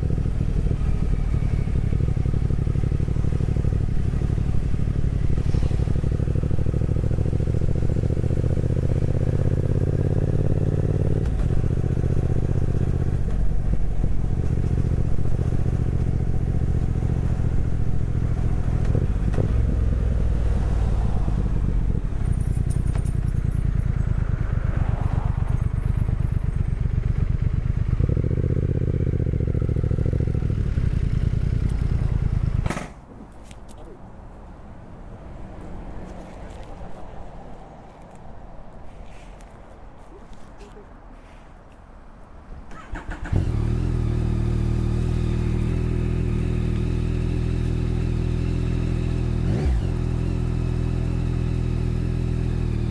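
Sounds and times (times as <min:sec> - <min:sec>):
motorcycle engine running: 0:00.0 - 0:32.9, 0:42.9 - 0:52.9.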